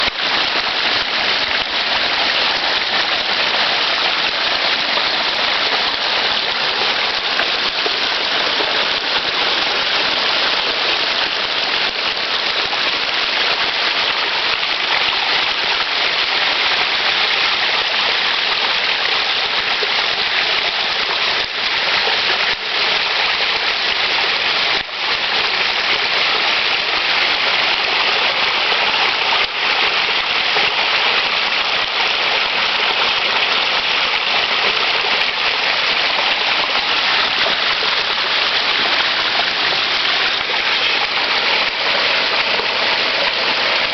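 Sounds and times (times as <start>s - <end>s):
waterfall splashing into pond: 0.0s - 43.9s.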